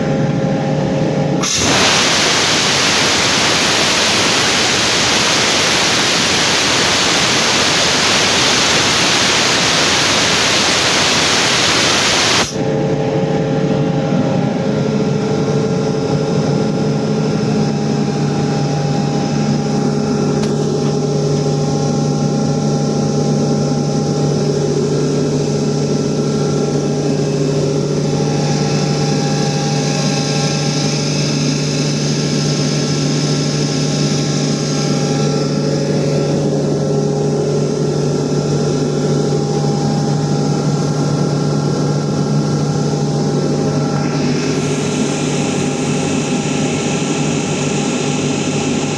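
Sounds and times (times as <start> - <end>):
air compressor humming: 0.0 - 12.9, 16.9 - 48.9
loud rushing hiss: 1.3 - 12.6, 19.8 - 48.9.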